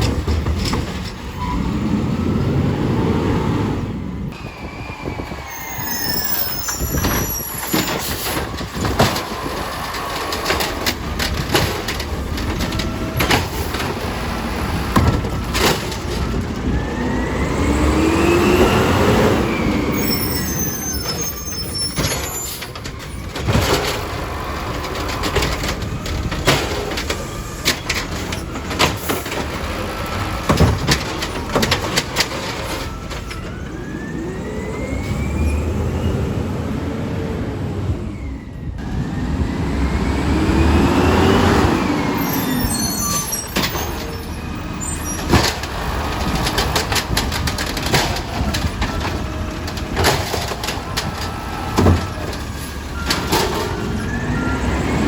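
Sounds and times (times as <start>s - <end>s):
garbage truck engine revving: 6.2s - 55.0s.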